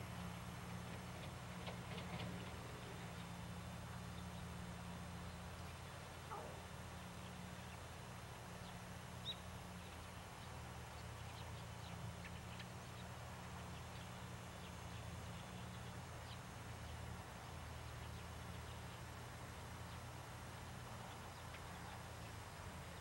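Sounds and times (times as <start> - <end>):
distant small birds chirping: 0.2 - 23.0.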